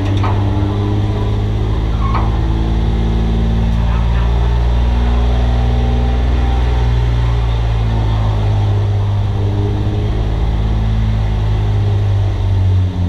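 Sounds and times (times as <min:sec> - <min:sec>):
race car engine droning: 0:00.0 - 0:13.0.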